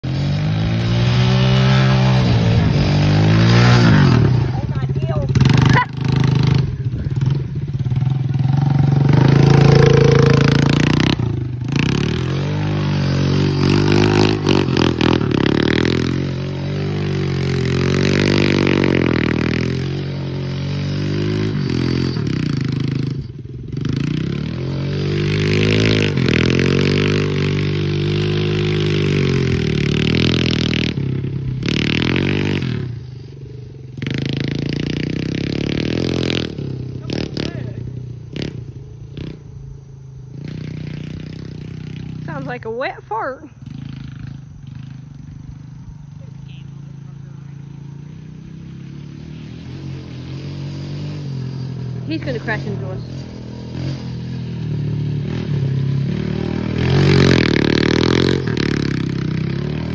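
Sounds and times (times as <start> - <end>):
quad engine revving: 0.0 - 39.5, 40.3 - 59.9.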